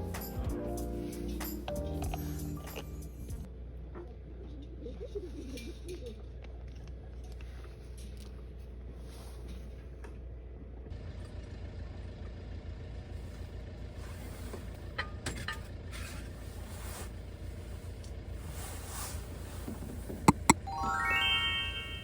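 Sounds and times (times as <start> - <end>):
moving vehicle rumble: 1.3 - 20.6.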